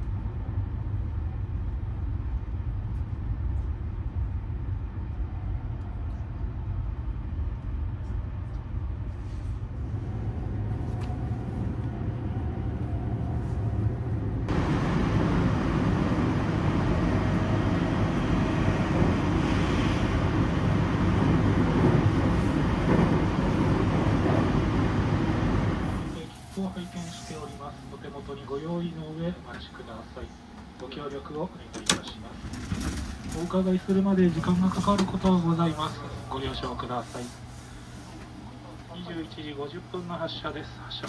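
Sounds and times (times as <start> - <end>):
train carriage rumble and hum: 0.0 - 41.0.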